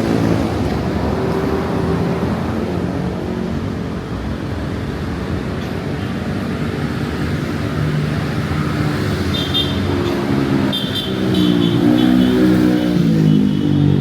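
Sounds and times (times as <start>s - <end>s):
cars and motorbikes passing: 0.0s - 14.0s.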